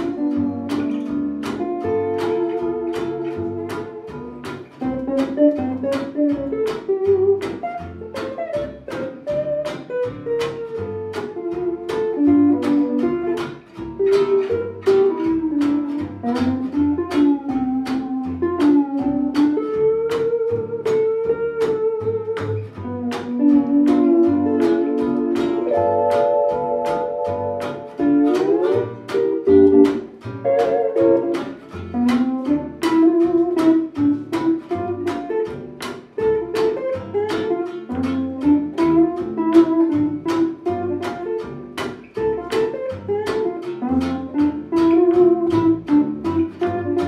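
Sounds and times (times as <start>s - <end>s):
steel guitar sliding melody: 0.0s - 35.5s, 42.2s - 47.0s
guitar chords: 0.0s - 47.0s
walking double bass: 0.0s - 47.0s.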